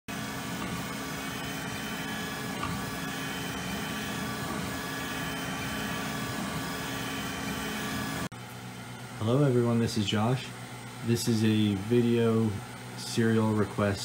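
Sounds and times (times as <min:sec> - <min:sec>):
whining motors and fans: 0:00.0 - 0:14.0
printer mechanical hum: 0:00.1 - 0:14.0.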